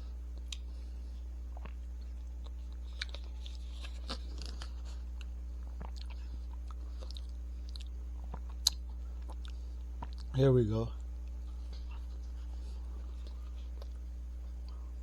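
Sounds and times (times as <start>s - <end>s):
low electrical hum: 0.0s - 15.0s
chewing crunches: 1.4s - 10.4s, 11.0s - 15.0s.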